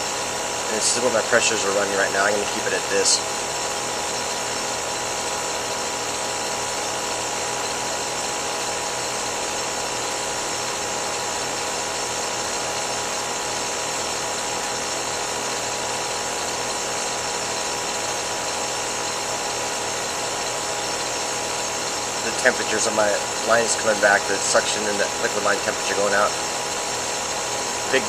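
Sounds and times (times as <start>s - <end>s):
air conditioner unit humming: 0.0s - 28.0s.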